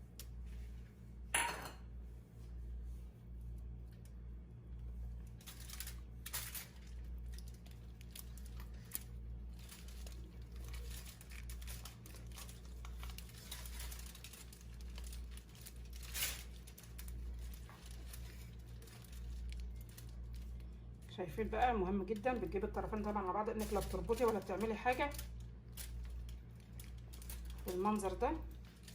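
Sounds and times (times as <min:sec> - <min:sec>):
steady low hum: 0:00.0 - 0:28.9
aluminium foil crinkling: 0:04.9 - 0:28.9.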